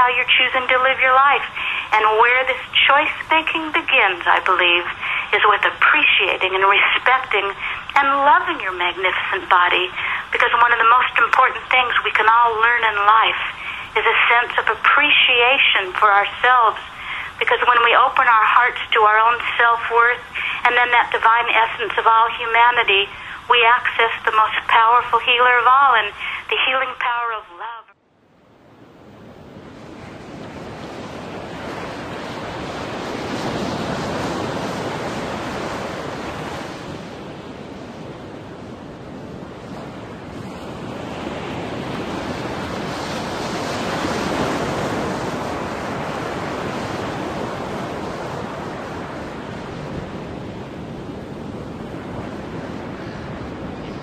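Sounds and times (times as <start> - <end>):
ocean waves: 0.0 - 54.0.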